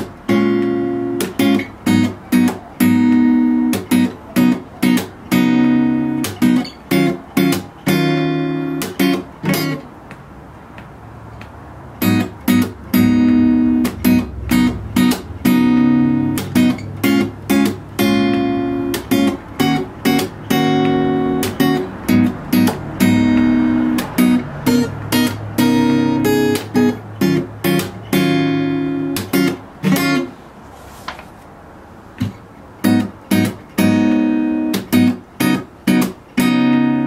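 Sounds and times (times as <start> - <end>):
acoustic guitar strumming: 0.0 - 30.4, 32.2 - 37.0.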